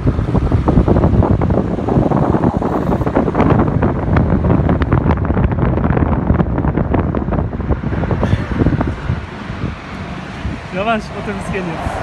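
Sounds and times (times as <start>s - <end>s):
car road noise: 0.0s - 12.0s
wind buffeting microphone: 0.0s - 12.0s.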